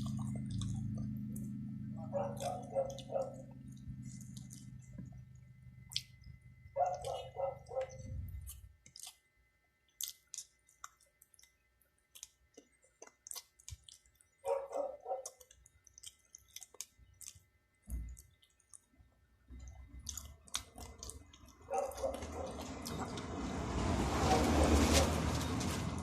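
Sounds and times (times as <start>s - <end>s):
wet chewing: 0.0s - 5.2s, 5.8s - 9.3s, 10.0s - 18.9s, 19.6s - 23.3s.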